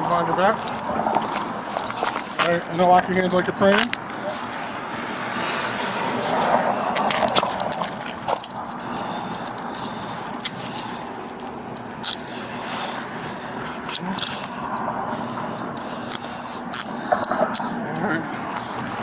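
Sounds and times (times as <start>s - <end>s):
handcuffs clicking and jangling: 0.6s - 4.2s, 7.0s - 18.7s
clothing rustling: 0.6s - 16.8s.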